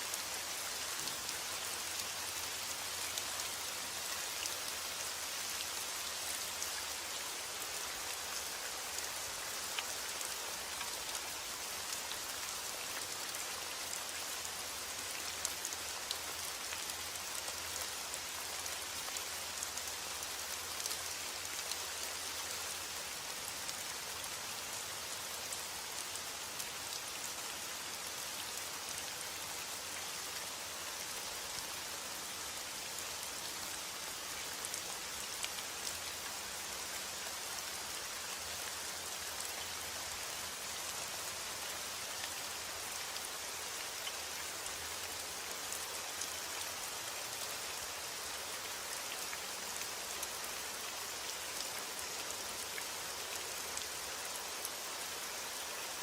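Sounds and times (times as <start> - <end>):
rain pattering: 0.1 - 56.0.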